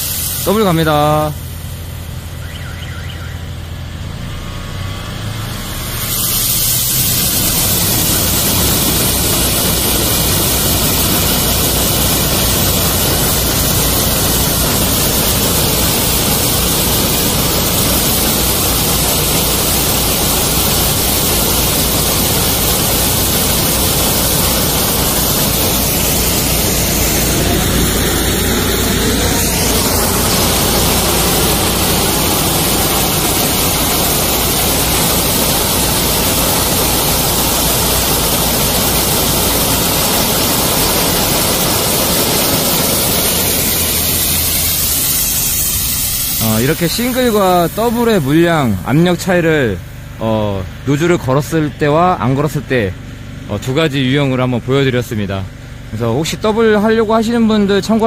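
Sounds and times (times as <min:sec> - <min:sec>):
high-pressure water jet hissing: 0:00.0 - 0:03.3, 0:04.2 - 0:50.0
low engine hum: 0:00.7 - 0:50.9.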